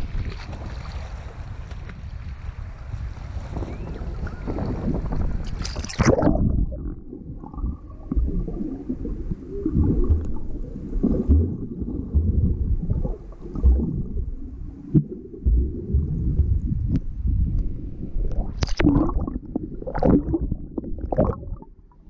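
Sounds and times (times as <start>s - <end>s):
water splashing: 0.0s - 2.1s, 4.0s - 16.9s, 18.1s - 21.8s
wind: 0.0s - 19.8s
underwater sloshing and gurgling: 3.6s - 22.0s
dull low underwater thumps: 4.2s - 22.0s.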